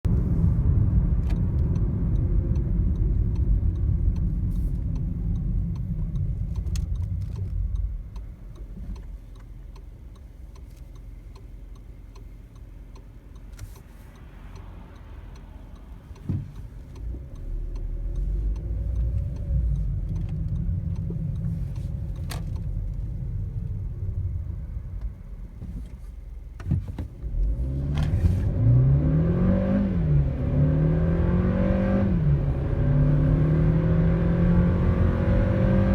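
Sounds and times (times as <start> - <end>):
car engine rumbling: 0.0 - 35.9
engine revving under acceleration: 0.0 - 35.9.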